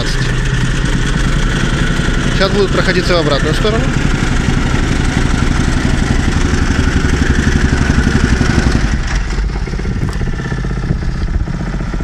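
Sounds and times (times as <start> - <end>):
compactor rammer pounding: 0.0 - 12.0.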